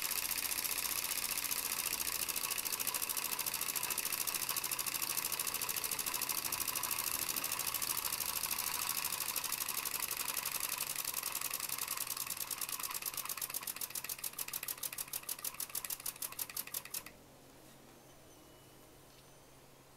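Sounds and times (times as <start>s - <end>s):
toy steam engine chuffing: 0.0s - 17.1s.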